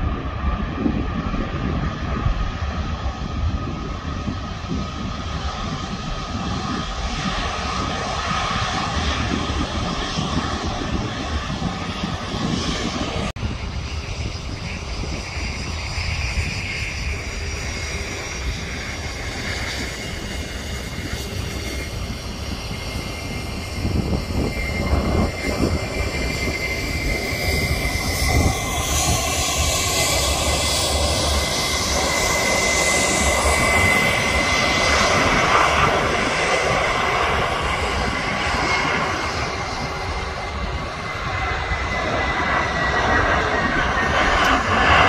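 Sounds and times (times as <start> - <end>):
jet airliner engines roaring: 0.0 - 45.0.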